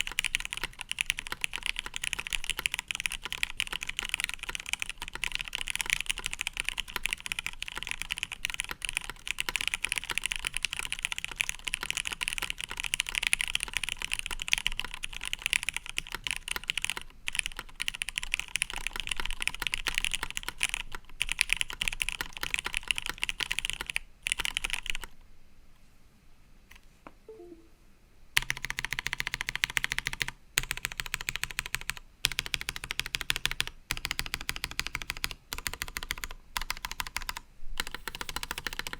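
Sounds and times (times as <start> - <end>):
mechanical keyboard typing: 0.0 - 25.2, 28.4 - 38.9.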